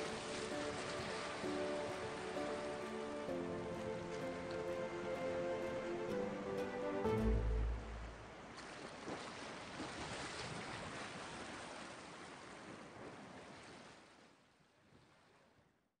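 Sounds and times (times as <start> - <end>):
ocean waves washing: 0.0 - 13.9.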